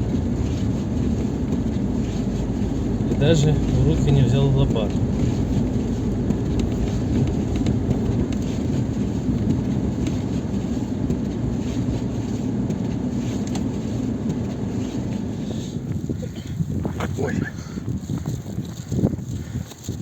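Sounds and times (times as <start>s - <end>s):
car engine running: 0.0s - 20.0s
tyres rumbling on snow: 0.0s - 20.0s.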